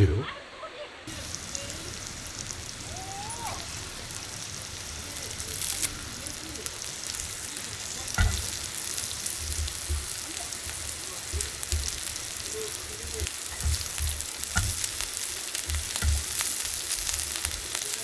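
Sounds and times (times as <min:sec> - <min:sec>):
meat sizzling in a pan: 0:01.1 - 0:18.0.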